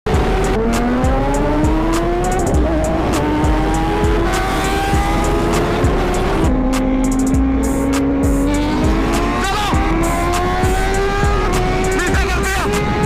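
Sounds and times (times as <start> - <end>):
motorcycle engine accelerating: 0.1 - 13.0
music with thudding beat: 0.1 - 13.0.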